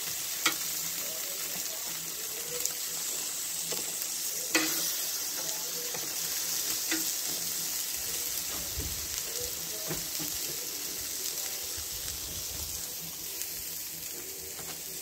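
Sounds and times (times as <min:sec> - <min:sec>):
sausages sizzling on a grill: 0:00.0 - 0:15.0.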